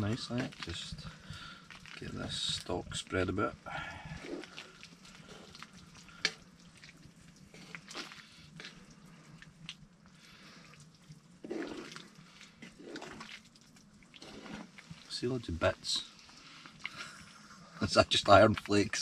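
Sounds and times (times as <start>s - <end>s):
spatula stirring stew: 0.0s - 17.7s
stew bubbling and simmering: 0.0s - 19.0s.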